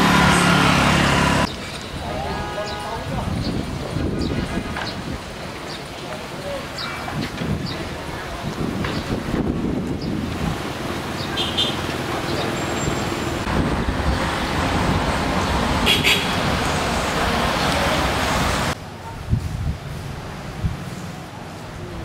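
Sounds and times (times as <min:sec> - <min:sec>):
motorbike engines passing: 0:00.0 - 0:22.0
street traffic: 0:00.0 - 0:22.0.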